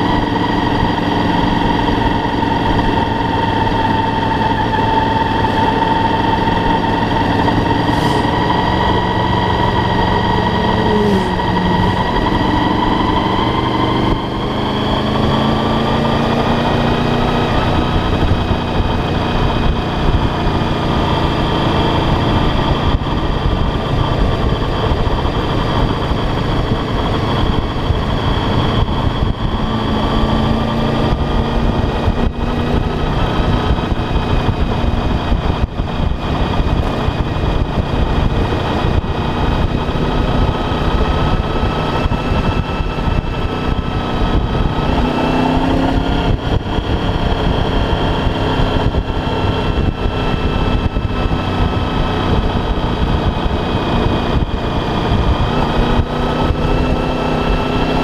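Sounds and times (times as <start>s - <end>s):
heavy wind rush: 0.0s - 58.0s
motorcycle engine running: 0.0s - 58.0s.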